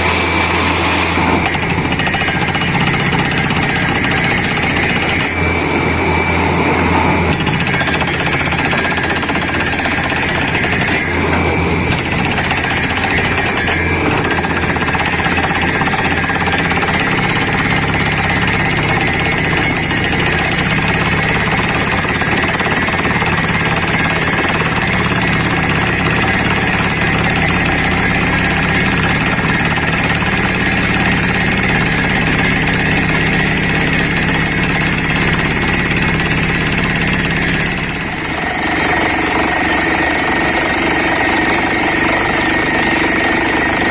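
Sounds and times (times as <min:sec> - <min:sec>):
rig and compressor engines running: 0:00.0 - 0:43.9
drill hammer clattering: 0:01.4 - 0:05.4, 0:07.3 - 0:43.9.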